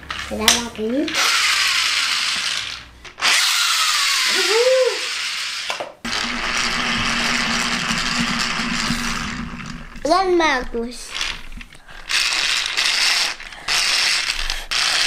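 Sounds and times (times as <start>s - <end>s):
toy car motor whirring: 1.1s - 9.3s, 11.1s - 15.0s.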